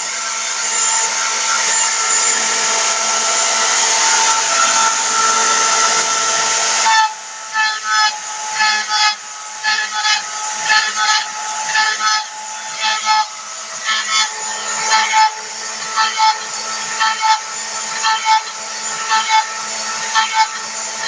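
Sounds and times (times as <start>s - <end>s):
mill cutting metal: 0.0s - 21.0s.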